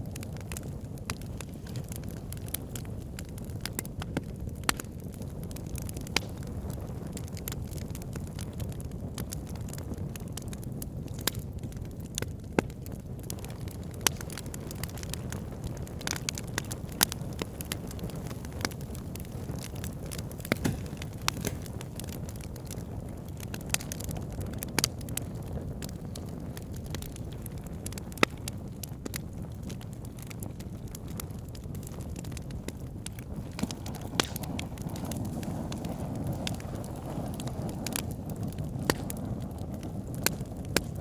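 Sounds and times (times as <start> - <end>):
fire crackles and pops: 0.0 - 41.0
low rumble of flames: 0.0 - 41.0.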